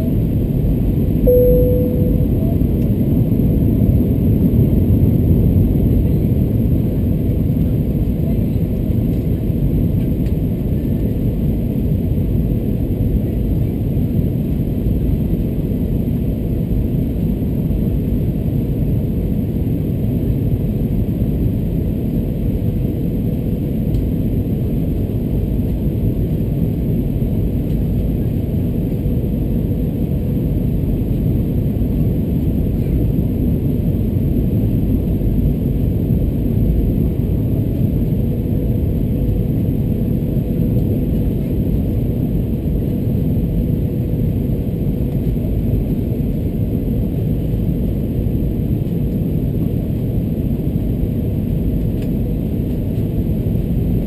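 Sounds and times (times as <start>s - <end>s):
airplane cabin rumble: 0.0s - 54.0s
faint steady hum: 0.0s - 54.0s.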